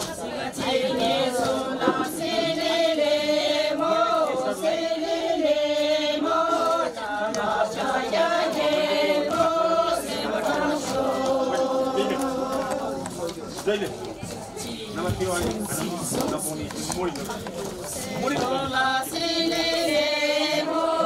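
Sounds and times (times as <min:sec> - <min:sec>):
group singing in unison: 0:00.0 - 0:13.4, 0:14.6 - 0:21.0.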